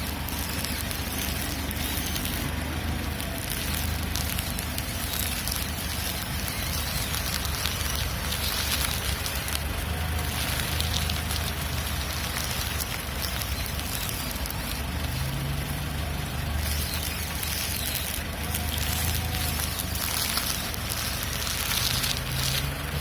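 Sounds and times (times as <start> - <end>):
engine humming: 0.0 - 23.0
steering creaking: 0.0 - 23.0.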